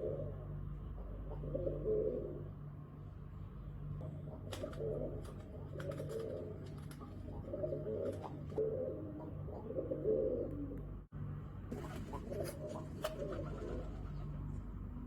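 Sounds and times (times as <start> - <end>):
pigeons cooing: 0.0 - 2.6, 3.9 - 11.0, 11.7 - 14.5.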